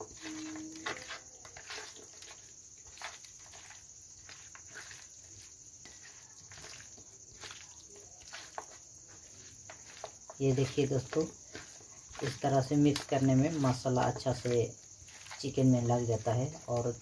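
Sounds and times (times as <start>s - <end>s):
raw meat squelching: 0.1s - 17.0s.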